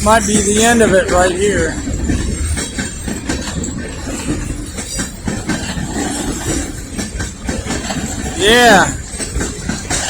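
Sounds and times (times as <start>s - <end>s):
freight train rumbling past: 0.0s - 10.0s
wheel clicks over rail joints: 0.0s - 10.0s.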